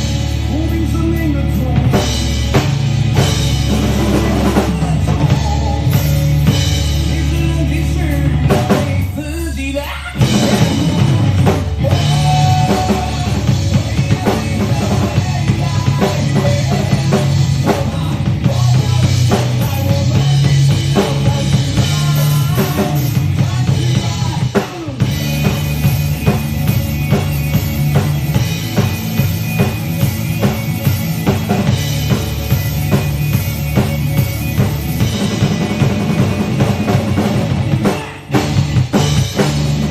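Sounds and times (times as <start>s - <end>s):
band music: 0.0s - 39.9s
drum kit groove: 0.0s - 39.9s.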